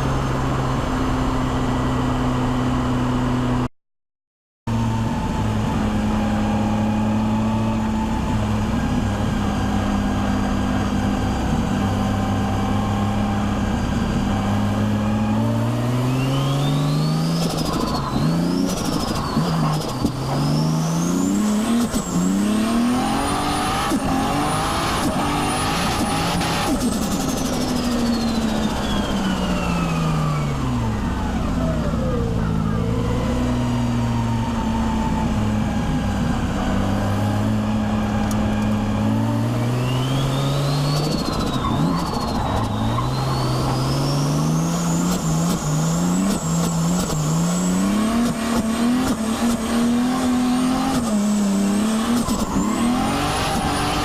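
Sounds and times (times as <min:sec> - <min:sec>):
car engine revving: 0:04.9 - 0:54.0.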